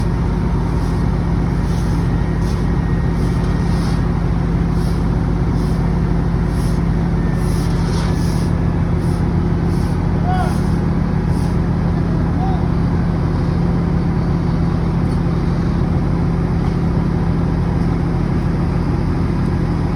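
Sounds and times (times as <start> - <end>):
heavy engine running: 0.0 - 19.9.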